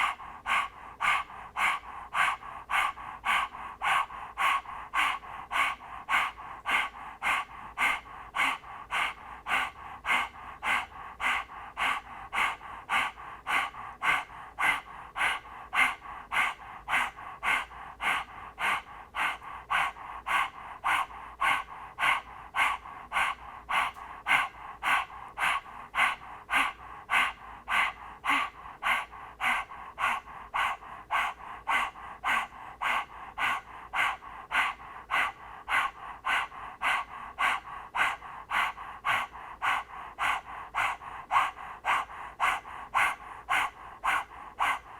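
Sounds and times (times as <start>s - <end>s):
person panting rapidly: 0.0s - 44.9s.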